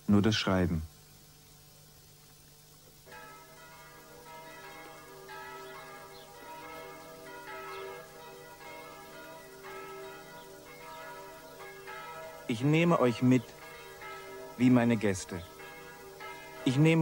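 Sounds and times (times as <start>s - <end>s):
bells ringing: 3.1s - 17.0s.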